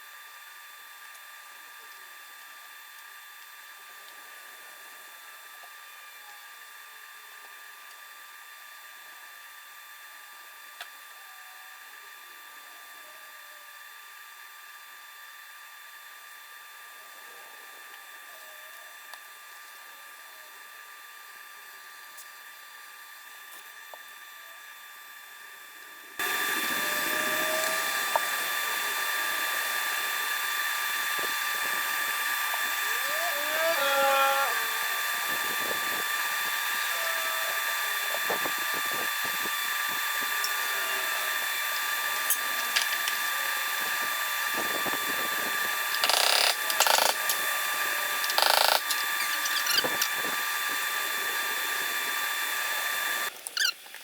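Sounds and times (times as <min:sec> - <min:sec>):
power tool motor whine: 0:00.0 - 0:54.0.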